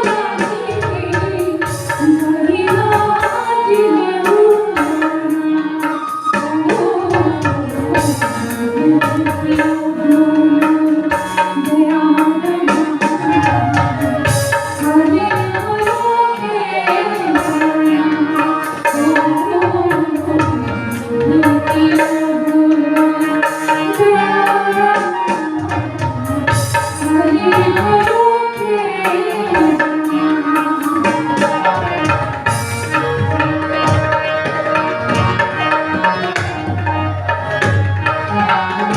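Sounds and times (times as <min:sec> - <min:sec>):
bending folk melody: 0:00.0 - 0:38.9
hand drum rhythm: 0:00.0 - 0:38.9.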